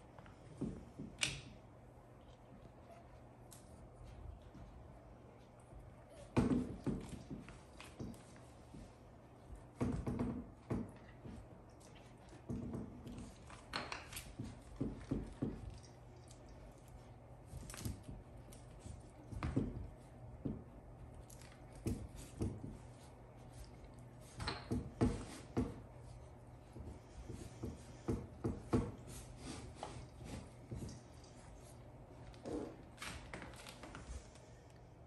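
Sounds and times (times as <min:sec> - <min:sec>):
faint steady hum: 0:00.0 - 0:35.0
puppies scuffling on tile floor: 0:02.0 - 0:34.6.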